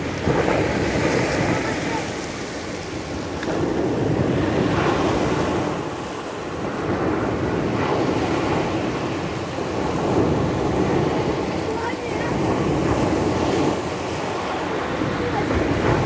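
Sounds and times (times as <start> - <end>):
waves washing over pebble beach: 0.0 - 16.0
wind buffeting microphone: 0.0 - 16.0.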